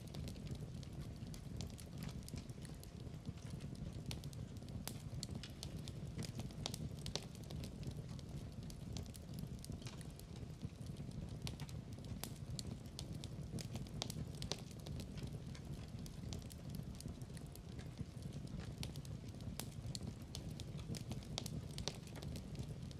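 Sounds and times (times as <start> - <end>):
fire popping and snapping: 0.0 - 22.9
fireplace crackling: 0.0 - 22.9.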